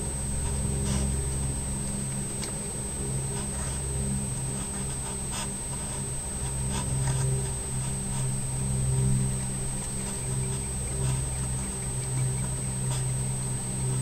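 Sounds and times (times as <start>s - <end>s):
high-pitched whine: 0.0s - 14.0s
low mechanical hum: 0.0s - 14.0s.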